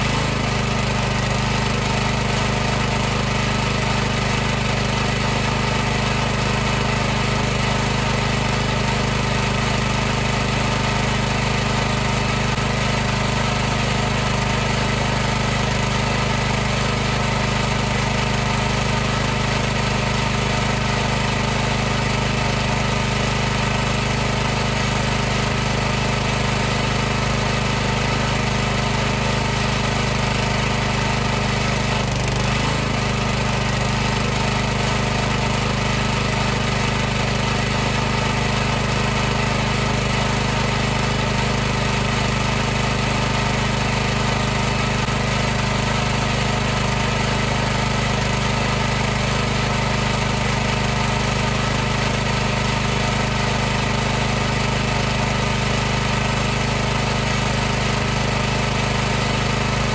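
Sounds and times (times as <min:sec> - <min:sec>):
pressure washer pump humming: 0:00.0 - 0:59.9.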